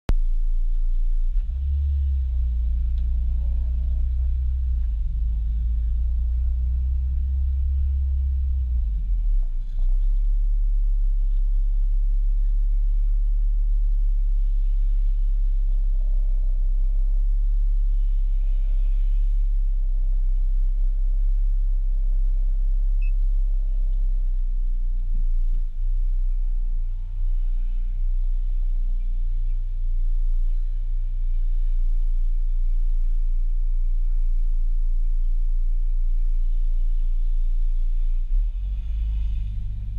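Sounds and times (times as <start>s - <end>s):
car engine low rumble: 0.1s - 39.9s.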